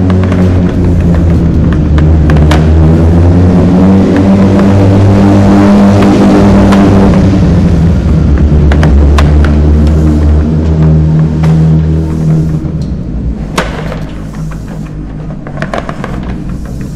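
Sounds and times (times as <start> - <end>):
sharp clicks and knocks: 0.0 - 7.5, 8.1 - 16.9
engine humming steadily: 0.0 - 16.9.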